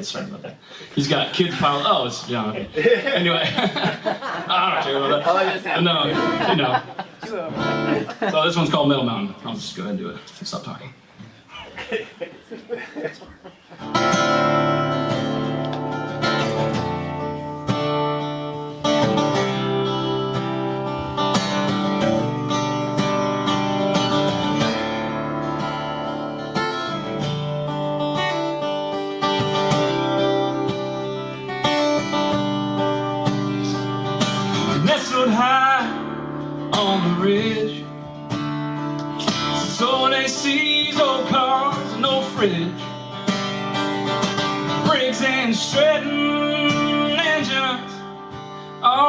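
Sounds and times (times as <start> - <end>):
acoustic guitar chords: 3.5 - 9.7, 13.7 - 49.0.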